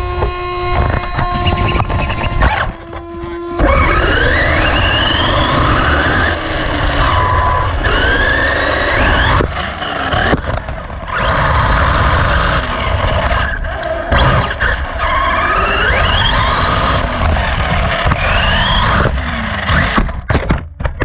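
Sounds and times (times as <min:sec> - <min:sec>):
rc car motor whining: 0:00.0 - 0:20.2.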